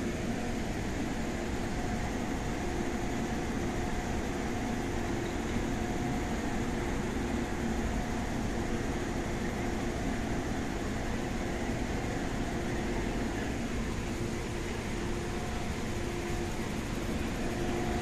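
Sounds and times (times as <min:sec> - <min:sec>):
electrical hum: 0:00.0 - 0:18.0
train interior rumble and hiss: 0:00.0 - 0:18.0.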